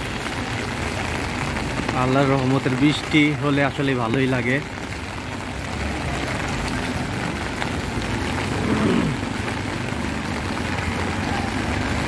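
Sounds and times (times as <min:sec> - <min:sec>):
rain on flooded street: 0:00.0 - 0:12.0
traffic engine rumble: 0:00.0 - 0:12.0.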